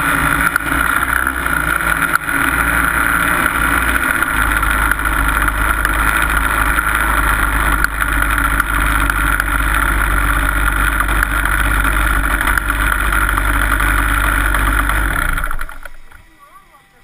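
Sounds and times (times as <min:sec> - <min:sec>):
kart engine running at low revs: 0:00.0 - 0:17.0.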